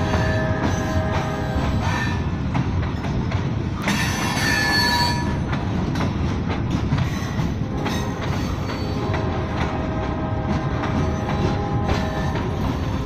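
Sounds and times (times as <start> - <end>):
freight train rumbling: 0.0 - 13.0
wheels clicking over rail joints: 0.0 - 13.0.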